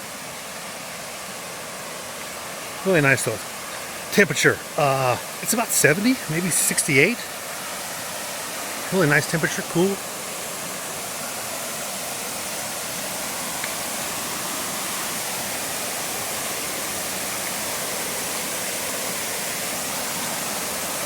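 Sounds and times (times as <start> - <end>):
creek and waterfall rushing: 0.0 - 21.0.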